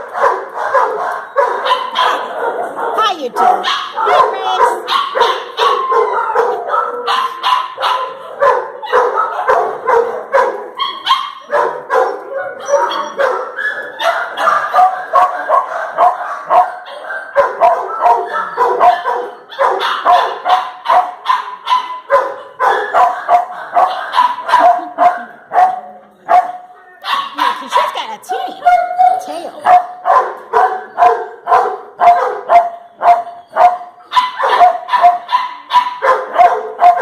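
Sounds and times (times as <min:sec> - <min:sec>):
dogs barking: 0:00.0 - 0:37.0.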